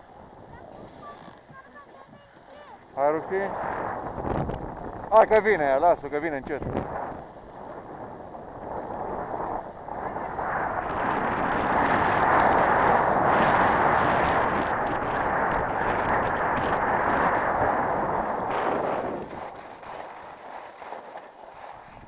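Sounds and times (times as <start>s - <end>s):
skis scraping over snow: 0.0s - 22.0s
wind on microphone: 0.0s - 22.0s.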